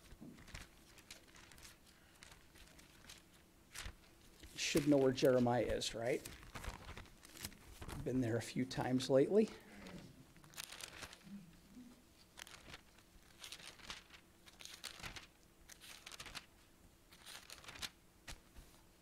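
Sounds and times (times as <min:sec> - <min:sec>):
thin pages turning: 0:00.0 - 0:11.3, 0:12.1 - 0:18.8.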